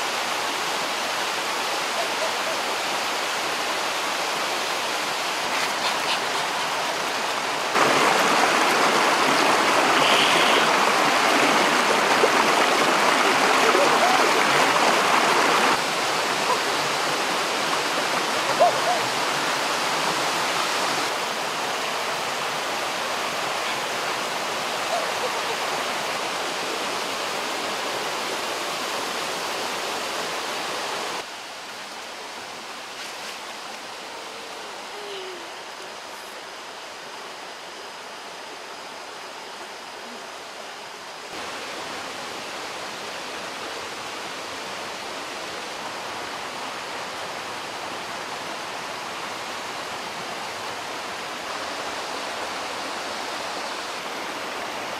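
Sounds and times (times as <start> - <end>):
water rushing over rocks: 0.0 - 54.9.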